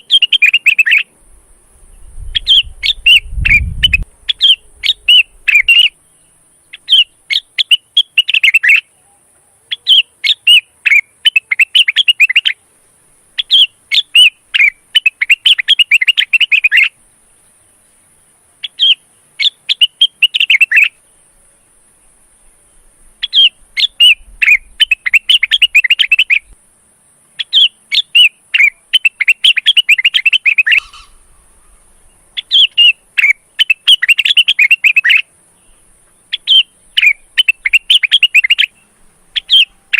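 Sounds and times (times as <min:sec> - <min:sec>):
bird singing whistled notes: 0:00.0 - 0:01.1, 0:01.8 - 0:12.6, 0:13.4 - 0:17.0, 0:18.6 - 0:26.6, 0:27.4 - 0:39.9.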